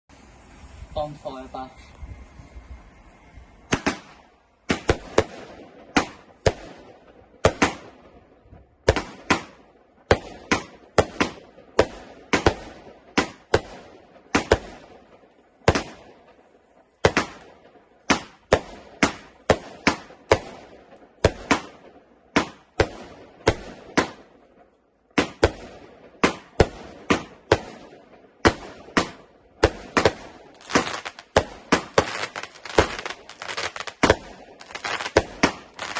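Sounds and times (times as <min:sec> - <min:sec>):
fireworks bangs: 0:02.6 - 0:35.9.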